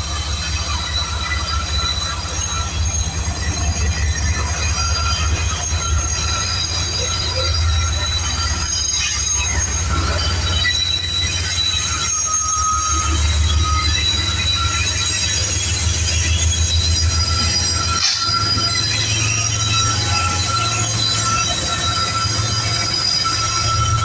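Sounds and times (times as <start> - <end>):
freight train rumbling: 0.0 - 24.0
train wheels squealing: 0.0 - 24.0.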